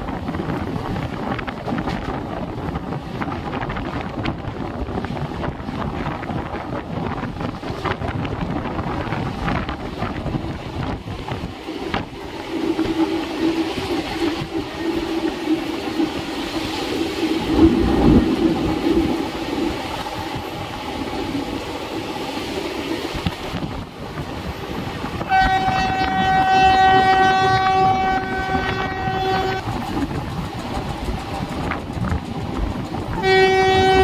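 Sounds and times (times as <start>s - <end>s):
rushing wind: 0.0s - 34.0s
train wheels clicking over rails: 0.0s - 34.0s.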